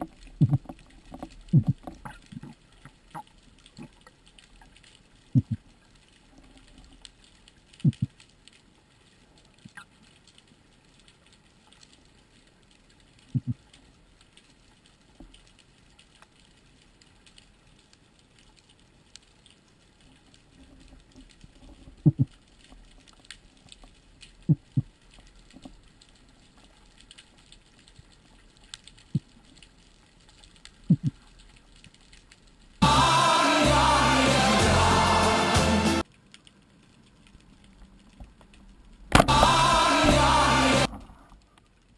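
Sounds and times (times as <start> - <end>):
underwater crackle: 0.0 - 32.8, 36.0 - 41.9.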